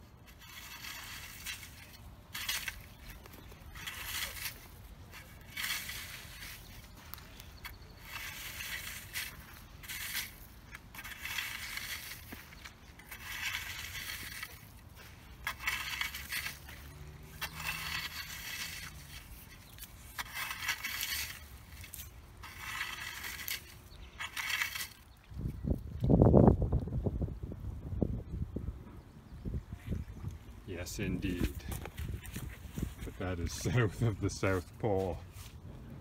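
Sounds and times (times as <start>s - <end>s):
rake scraping through soil: 0.0s - 26.2s, 30.0s - 35.6s.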